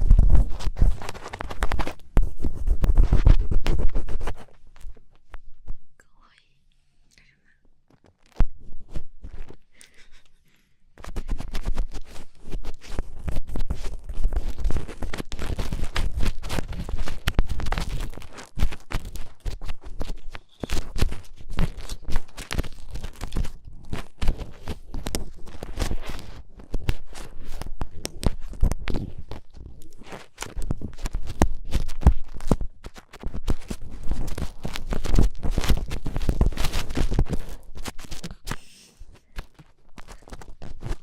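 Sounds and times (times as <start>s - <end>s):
scratching and tapping scrapes: 0.0s - 5.8s, 7.9s - 10.4s, 11.0s - 41.0s.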